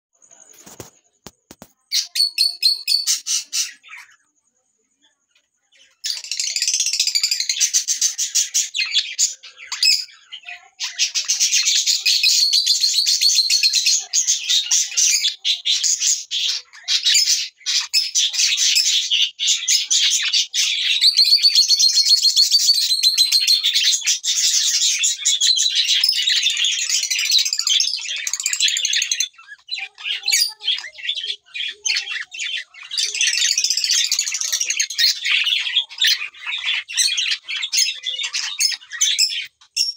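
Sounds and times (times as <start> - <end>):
lovebirds chattering: 0.2 - 39.9.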